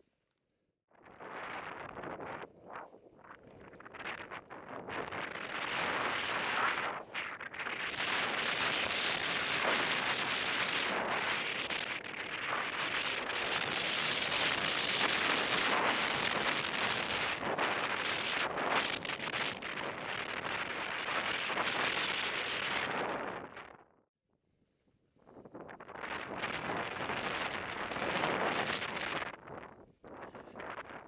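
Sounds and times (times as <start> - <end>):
wind rushing over microphone: 1.0 - 23.9, 25.2 - 31.0.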